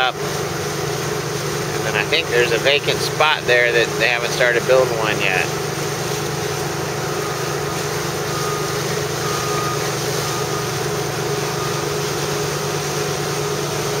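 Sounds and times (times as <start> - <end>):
ship engine droning: 0.0 - 14.0.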